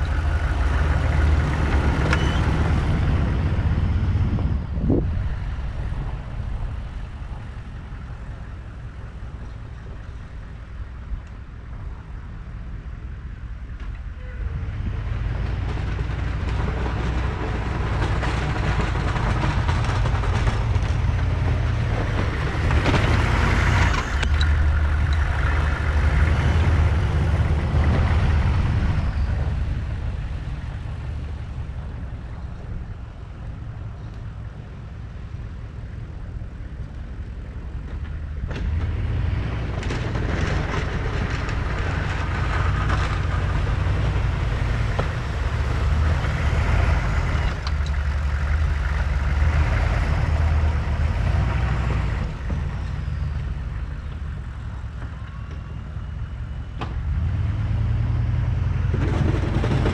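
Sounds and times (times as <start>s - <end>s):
truck engine running: 0.0s - 11.2s, 14.5s - 59.9s.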